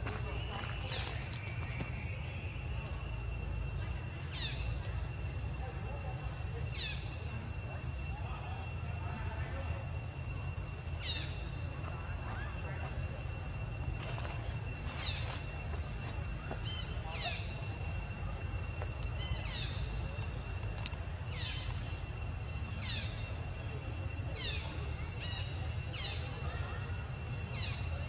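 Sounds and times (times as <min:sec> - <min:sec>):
steady high whine: 0:00.0 - 0:28.0.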